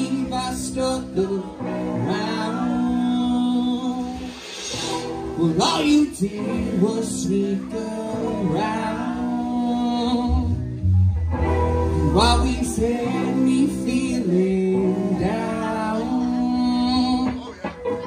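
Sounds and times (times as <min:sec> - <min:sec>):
live rock band playing: 0:00.0 - 0:18.0
pitch-bending guitar lead lines: 0:00.0 - 0:18.0.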